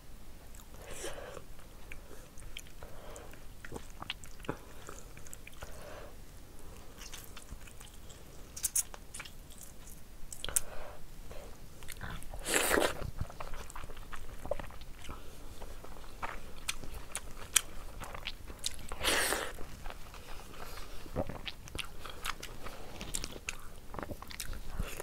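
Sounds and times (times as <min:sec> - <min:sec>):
wet chewing and mouth sounds: 0:00.5 - 0:05.9, 0:06.7 - 0:10.7, 0:11.4 - 0:25.0.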